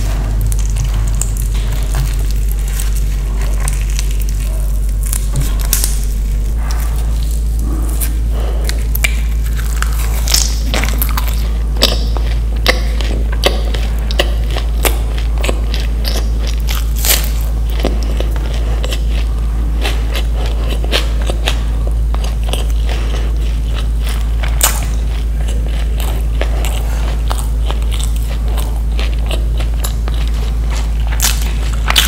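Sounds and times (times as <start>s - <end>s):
crunchy bites and chewing: 0.0s - 32.0s
steady low hum: 0.0s - 32.0s.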